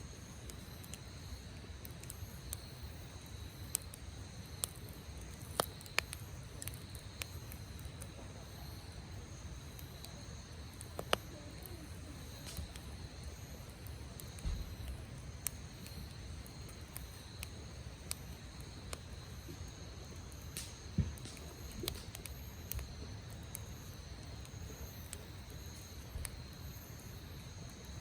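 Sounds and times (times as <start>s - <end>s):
campfire crackling: 0.0s - 28.0s
high insect trill: 0.0s - 28.0s
sharp pops of fire: 0.3s - 28.0s.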